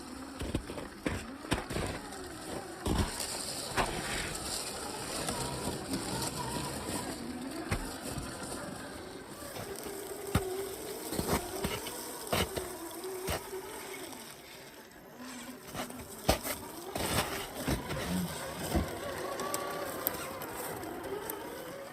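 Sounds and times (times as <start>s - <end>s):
toy truck motor whining: 0.0s - 21.9s.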